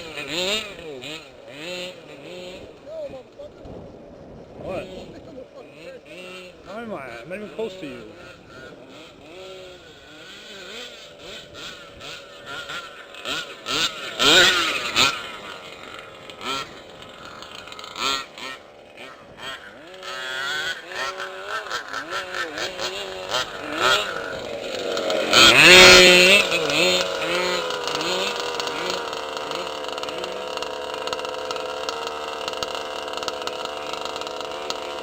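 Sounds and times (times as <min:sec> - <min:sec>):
rc car two-stroke engine revving: 0:00.0 - 0:35.0.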